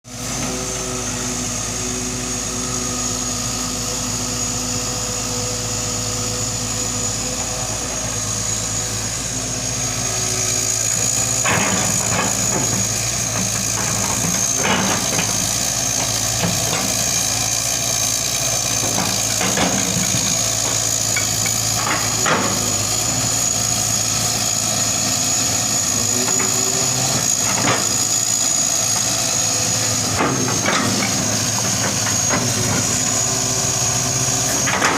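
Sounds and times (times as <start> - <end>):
constant high whine: 0.1 - 34.9
excavator diesel engine running: 0.1 - 34.9.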